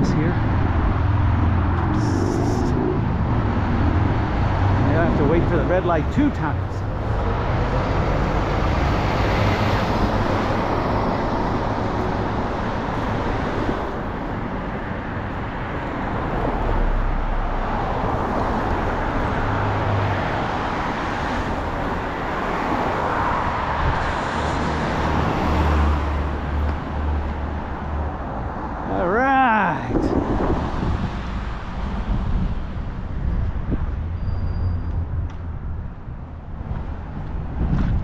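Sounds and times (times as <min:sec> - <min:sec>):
cars passing by: 0:00.0 - 0:38.0.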